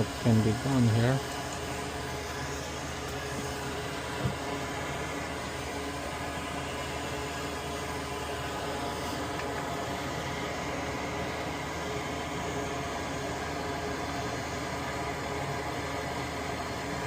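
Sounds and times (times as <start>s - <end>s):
small fan motor whirring: 0.0s - 17.0s.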